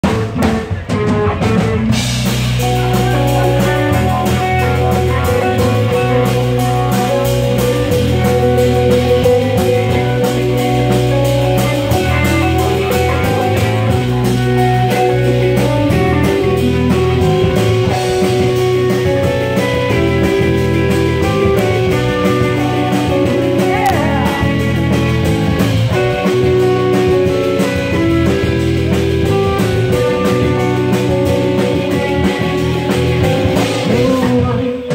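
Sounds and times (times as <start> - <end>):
deep bass notes: 0.0 - 34.9
rock band playing: 0.0 - 34.9.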